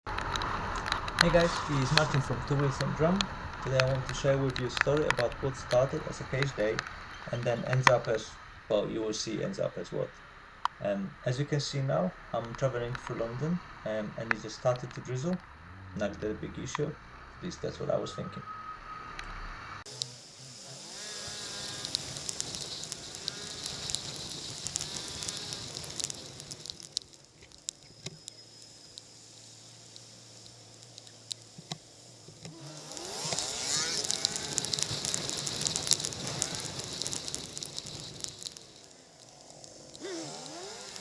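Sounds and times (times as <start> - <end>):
motorcycle engine revving: 0.0 - 41.0
wind and drizzle on camera: 0.1 - 18.1, 19.2 - 41.0
small ticks: 0.1 - 18.2, 19.1 - 41.0.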